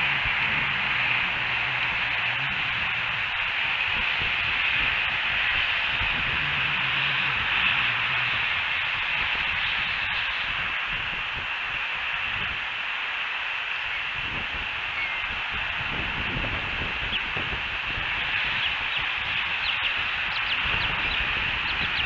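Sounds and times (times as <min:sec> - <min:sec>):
steady outdoor hiss: 0:00.0 - 0:22.0
wind rumbling on microphone: 0:00.0 - 0:22.0.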